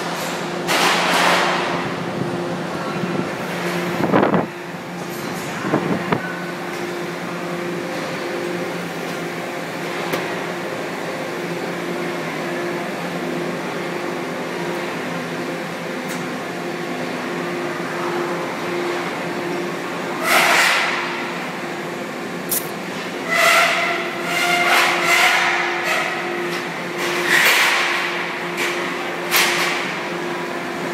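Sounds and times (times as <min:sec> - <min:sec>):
factory machinery hum: 0:00.0 - 0:30.9.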